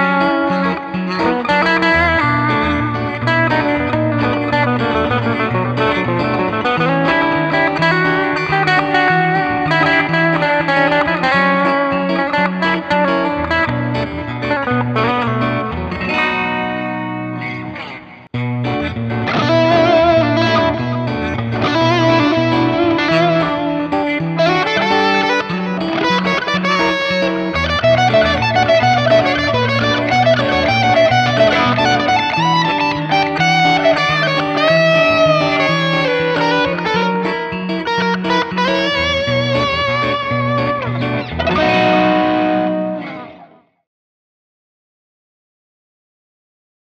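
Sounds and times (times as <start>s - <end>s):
electric guitar with effects: 0.0s - 43.9s.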